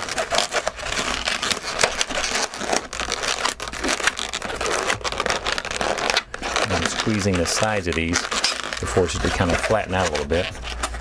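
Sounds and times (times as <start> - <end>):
balloon crackling: 0.0 - 11.0
hands rubbing latex balloons: 0.0 - 11.0.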